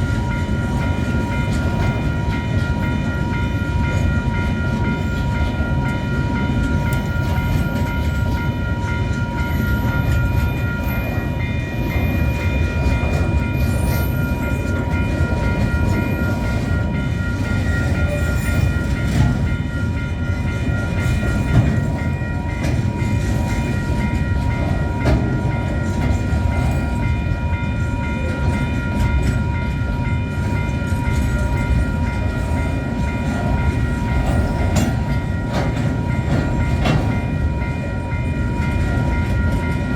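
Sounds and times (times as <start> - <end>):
crossing alarm pulsing tone: 0.0 - 39.9
train wheels rumbling and clicking: 0.0 - 39.9.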